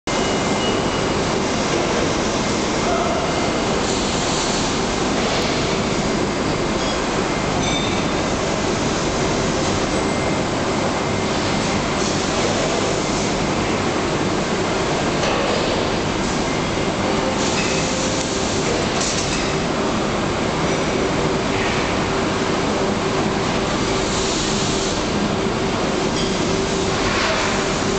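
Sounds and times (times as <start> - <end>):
machinery rumble and hiss: 0.1 - 27.9.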